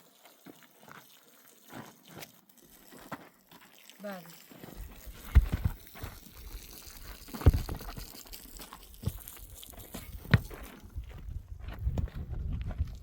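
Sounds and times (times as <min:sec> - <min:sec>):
soil and stones crunching: 0:00.3 - 0:13.0.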